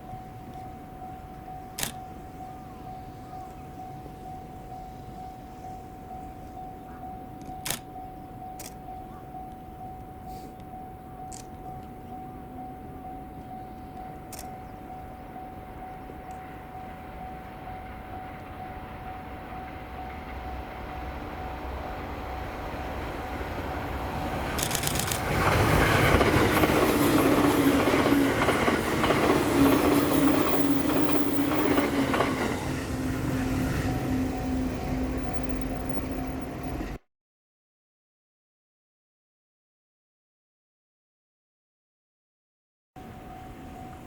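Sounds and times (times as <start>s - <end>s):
train passing: 0.0s - 37.0s, 43.0s - 44.0s.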